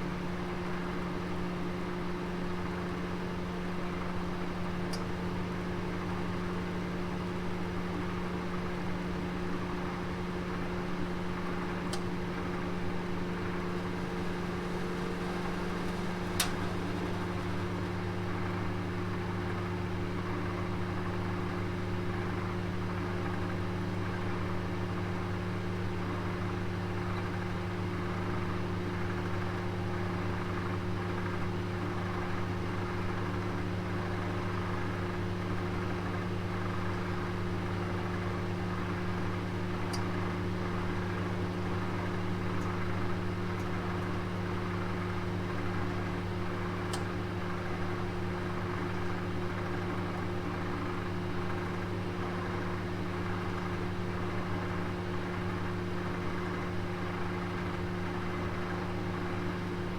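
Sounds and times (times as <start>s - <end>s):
oven hum and fan whir: 0.0s - 59.9s.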